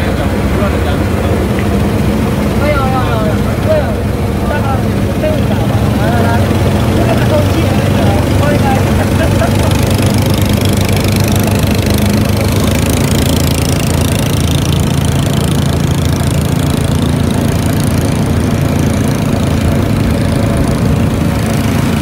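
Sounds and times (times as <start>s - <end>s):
boat motor droning: 0.0s - 22.0s.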